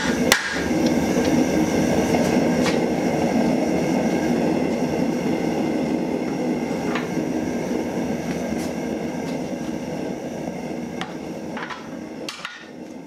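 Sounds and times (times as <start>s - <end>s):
forge burner rushing: 0.0s - 13.0s.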